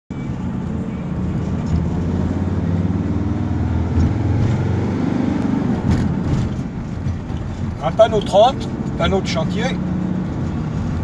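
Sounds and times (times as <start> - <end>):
road noise: 0.1 - 11.0.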